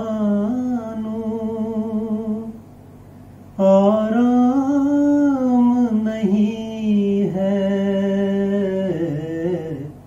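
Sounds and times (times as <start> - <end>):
man singing unaccompanied: 0.0 - 2.7, 3.6 - 10.0.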